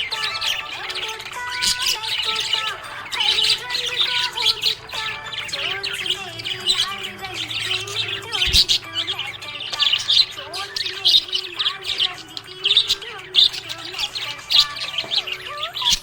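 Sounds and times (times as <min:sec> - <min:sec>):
budgie chirping and warbling: 0:00.0 - 0:16.0.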